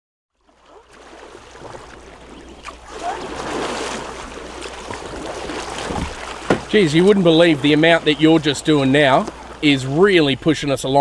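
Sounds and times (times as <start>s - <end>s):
water rushing and splashing: 0.4s - 11.0s.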